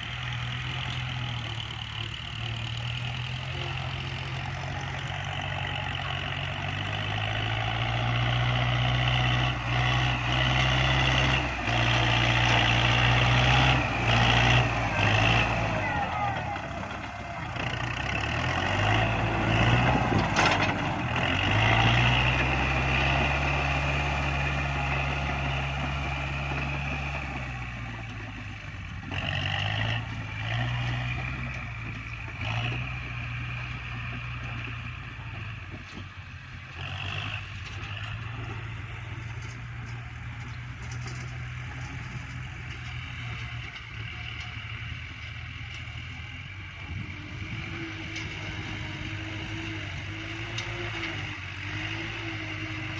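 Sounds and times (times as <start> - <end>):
tractor diesel engine working: 0.0 - 52.9.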